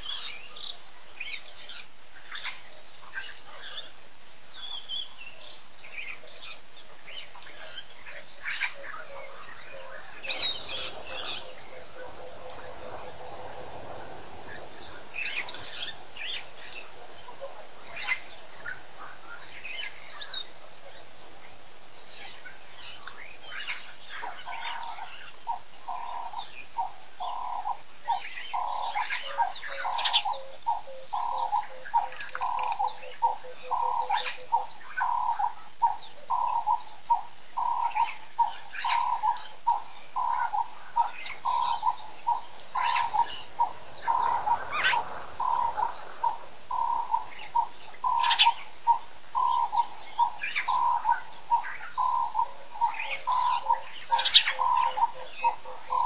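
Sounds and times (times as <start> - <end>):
other birds chirping: 0.0 - 56.0.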